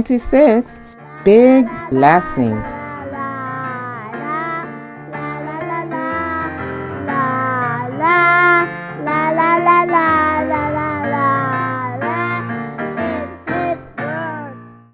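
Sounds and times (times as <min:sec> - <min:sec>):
instrumental accompaniment: 0:00.1 - 0:14.9
child singing: 0:01.0 - 0:14.6.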